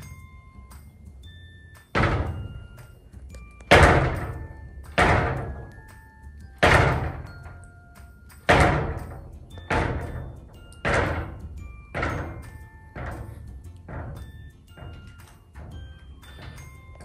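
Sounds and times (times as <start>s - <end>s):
glass door banging and rattling: 1.9s - 2.9s, 3.7s - 17.0s.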